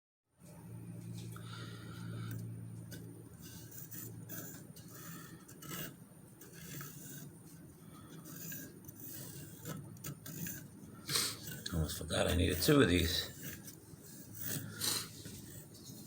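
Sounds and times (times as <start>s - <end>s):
low steady hum: 0.4s - 16.0s
scraping strokes on wood: 1.2s - 16.0s.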